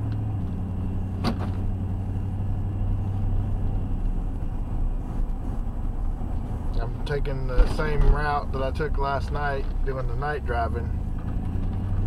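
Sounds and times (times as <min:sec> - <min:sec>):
car engine and road rumble: 0:00.0 - 0:12.0
low hum: 0:00.0 - 0:12.0.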